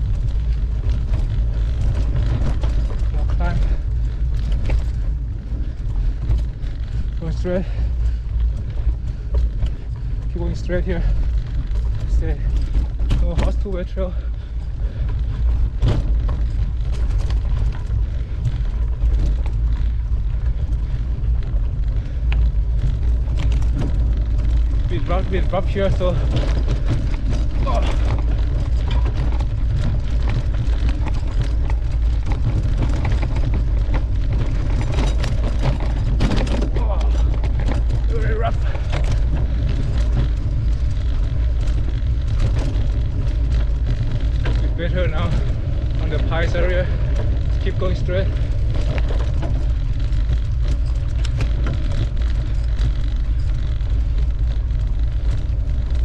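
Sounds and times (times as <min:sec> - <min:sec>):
low rumble of riding noise: 0:00.0 - 0:56.0
mountain bike rattling: 0:00.0 - 0:56.0
wind buffeting microphone: 0:00.0 - 0:56.0.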